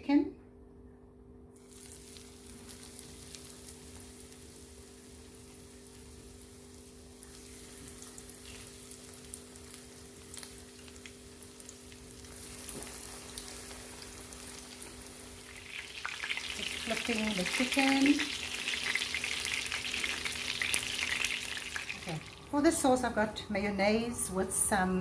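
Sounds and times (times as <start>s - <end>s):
faint steady hum: 0.0s - 25.0s
chicken frying in hot oil: 1.6s - 22.6s.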